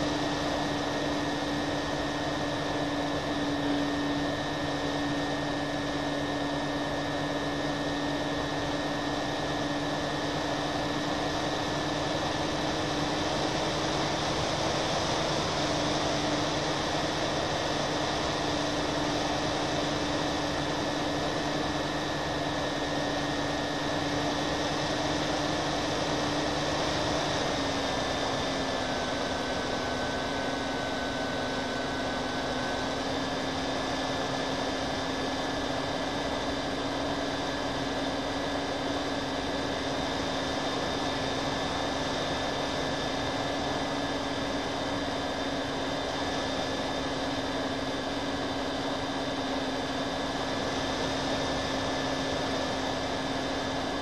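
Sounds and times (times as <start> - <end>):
model plane propellers droning: 0.0 - 54.0.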